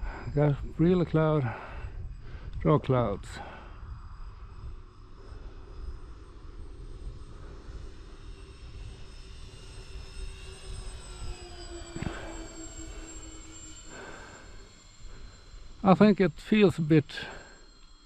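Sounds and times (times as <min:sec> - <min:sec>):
low rumble: 0:00.0 - 0:17.6
model plane motors whining: 0:00.0 - 0:18.0.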